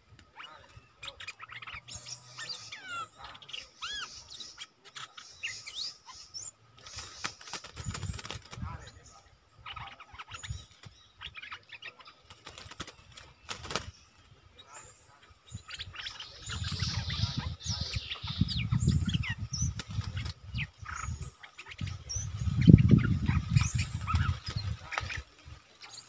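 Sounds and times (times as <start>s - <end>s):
bulbuls chirping: 0.0s - 26.0s.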